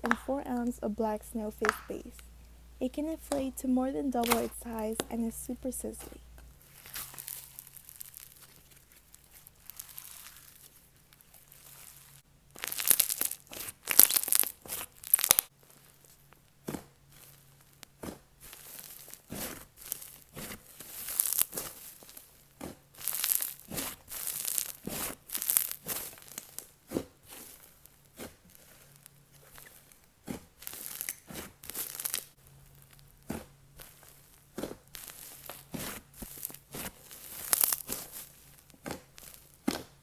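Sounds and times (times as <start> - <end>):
slime crackling and fizzing: 0.0 - 40.0.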